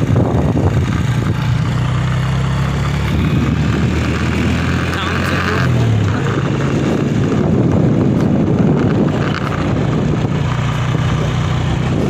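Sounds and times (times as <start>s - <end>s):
motorcycle engine running: 0.0s - 12.0s
road and wind rumble: 0.0s - 12.0s.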